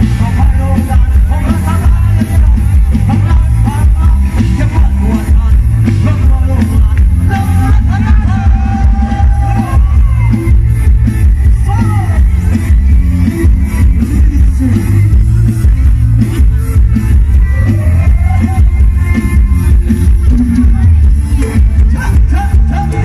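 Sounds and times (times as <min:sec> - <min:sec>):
loud music with pulsing bass: 0:00.0 - 0:23.0.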